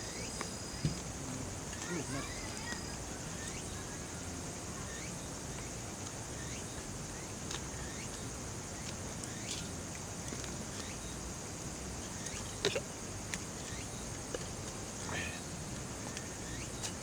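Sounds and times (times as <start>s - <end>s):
insects trilling: 0.0s - 9.8s, 10.7s - 17.0s.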